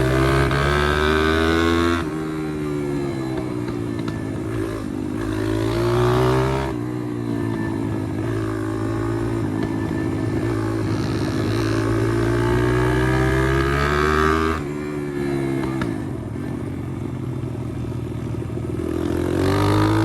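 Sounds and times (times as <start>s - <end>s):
motorbike engine running hard: 0.0s - 20.0s.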